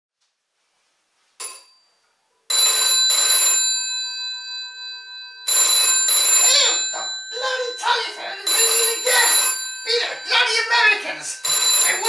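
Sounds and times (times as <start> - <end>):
telephone bell ringing: 1.4 - 12.0.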